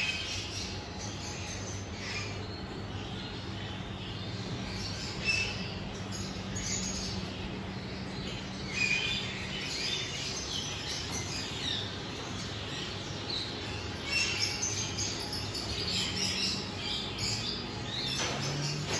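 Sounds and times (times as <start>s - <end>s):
low steady hum: 0.0s - 18.9s
small birds chirping: 0.0s - 18.9s.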